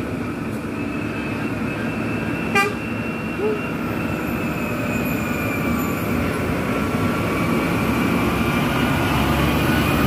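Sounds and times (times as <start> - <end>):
diesel truck engine under load: 0.0 - 10.0.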